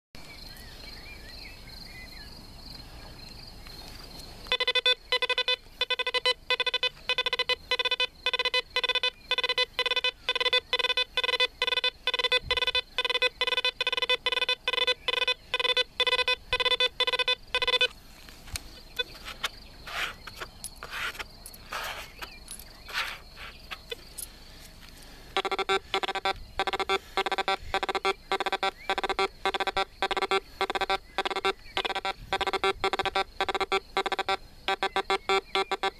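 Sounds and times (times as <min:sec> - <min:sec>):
metal detector beeping: 0:04.4 - 0:18.0, 0:18.7 - 0:24.3, 0:25.2 - 0:35.9.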